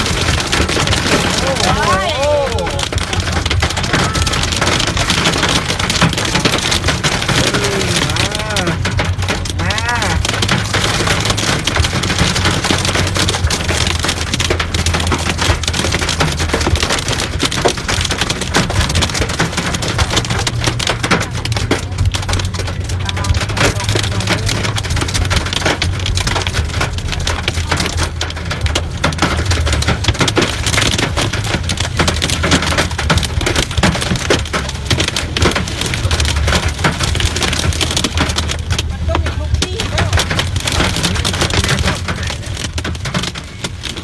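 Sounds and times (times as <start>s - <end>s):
hail and rain on car roof: 0.0s - 44.0s
low hum of moving car: 0.0s - 44.0s.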